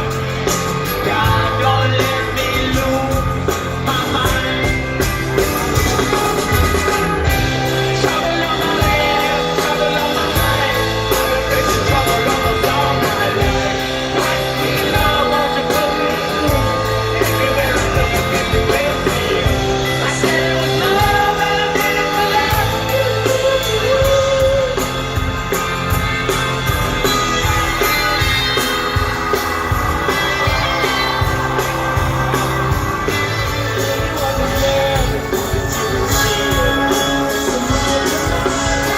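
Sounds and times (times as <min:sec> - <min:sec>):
person singing: 0:00.0 - 0:25.7, 0:27.1 - 0:38.9
bass guitar: 0:00.0 - 0:38.9
drums: 0:00.0 - 0:38.9
electric guitars: 0:00.0 - 0:38.9.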